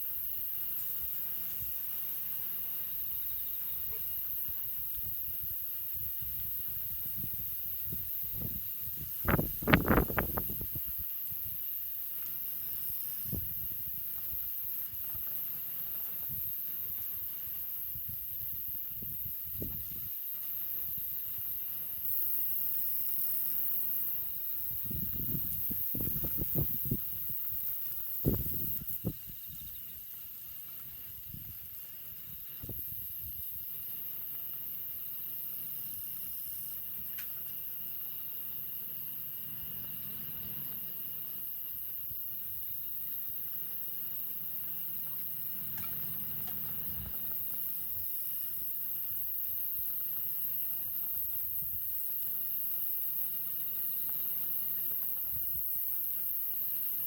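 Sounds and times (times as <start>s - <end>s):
campfire hissing: 0.0s - 57.0s.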